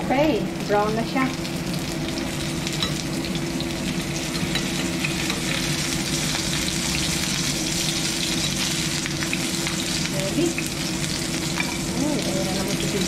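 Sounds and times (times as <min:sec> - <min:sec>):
tofu sizzling in oil: 0:00.1 - 0:13.0.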